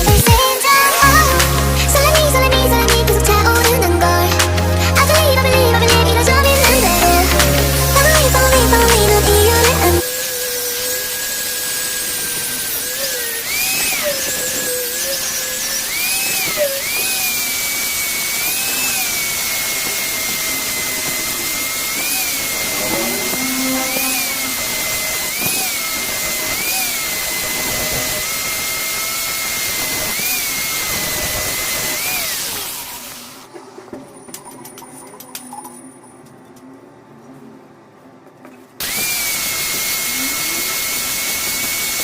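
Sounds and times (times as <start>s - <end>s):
power tool whining: 0.0s - 33.5s, 38.8s - 42.0s.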